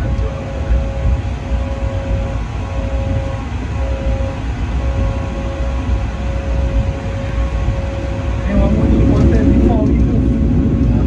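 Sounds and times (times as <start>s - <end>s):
locomotive rumbling with whine: 0.0s - 11.0s.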